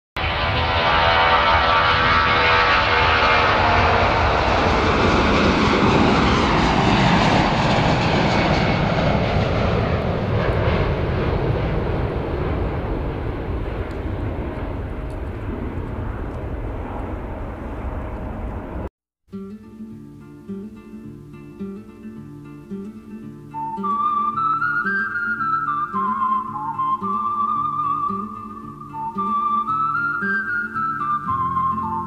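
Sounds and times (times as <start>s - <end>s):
jet airliner taking off: 0.2s - 18.9s, 23.6s - 32.0s.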